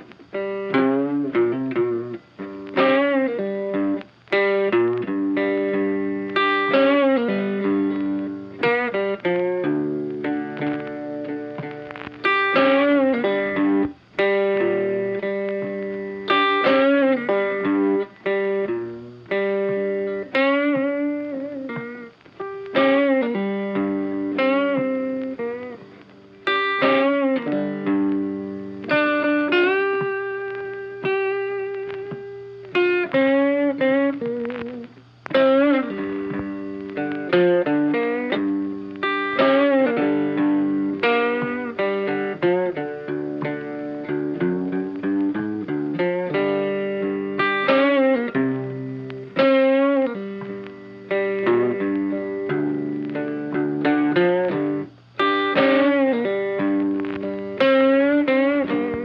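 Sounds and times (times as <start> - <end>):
blues guitar with bent notes: 0.0 - 59.0.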